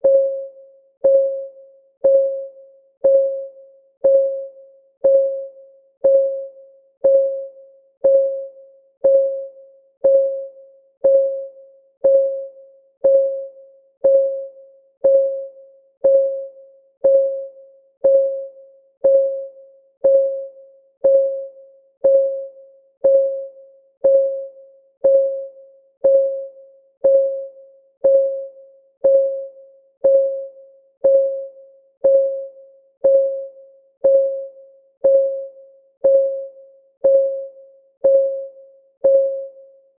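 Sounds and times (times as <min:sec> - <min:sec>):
timer ticking: 0:01.0 - 0:39.6.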